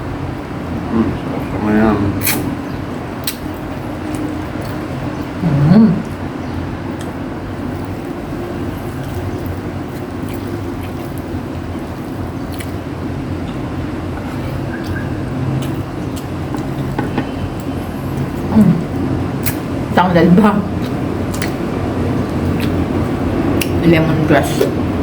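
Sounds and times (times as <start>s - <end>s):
low mechanical hum: 0.0s - 25.0s
people eating: 0.0s - 25.0s.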